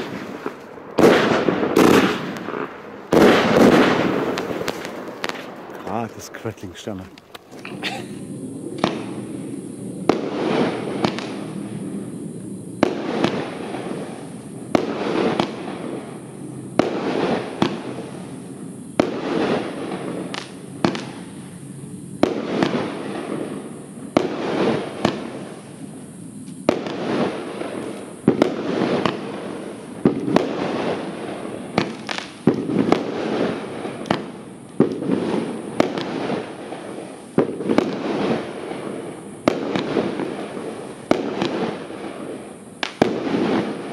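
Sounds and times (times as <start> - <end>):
firework launch and burst bangs: 0.0 - 21.6, 22.2 - 43.9
firework hissing and crackling: 0.0 - 43.9.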